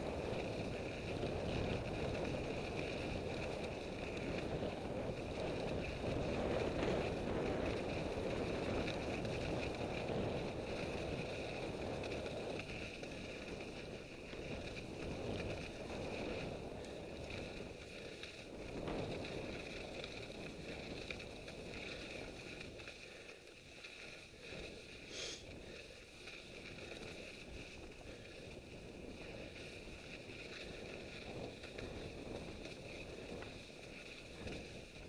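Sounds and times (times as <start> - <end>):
bike tyres rolling on snow: 0.0 - 35.0.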